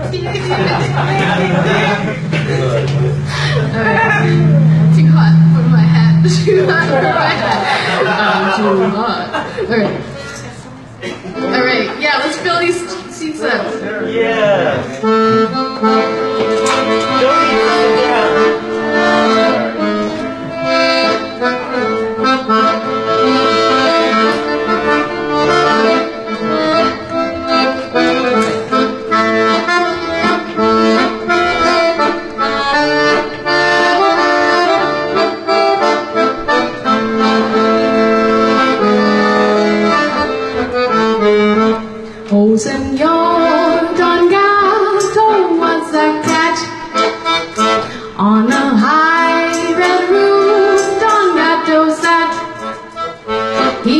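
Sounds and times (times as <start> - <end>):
accordion playing chords: 0.0 - 53.9.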